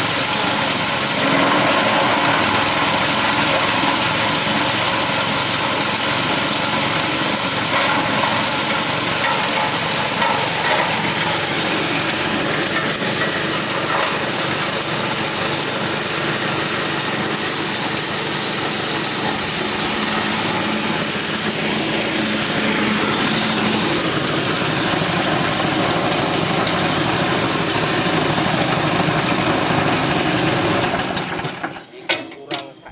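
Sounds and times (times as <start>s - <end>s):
forage chopper running: 0.0s - 32.9s.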